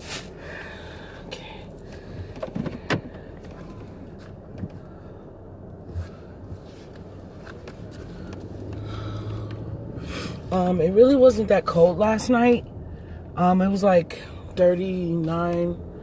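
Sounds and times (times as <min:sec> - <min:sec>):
car cabin hum: 0:00.0 - 0:16.0.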